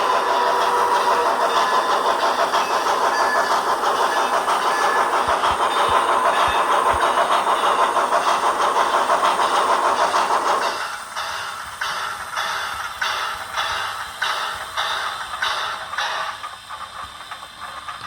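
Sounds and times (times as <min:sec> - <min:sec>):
model steam locomotive chuffs: 0:00.0 - 0:18.0.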